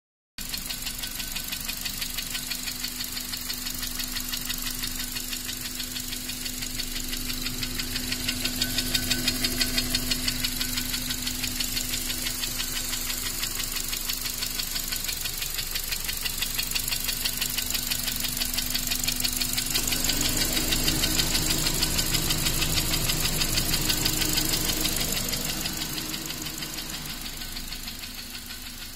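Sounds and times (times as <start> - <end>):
car engine running: 0.4 - 28.9
fast even engine knock: 0.4 - 28.9.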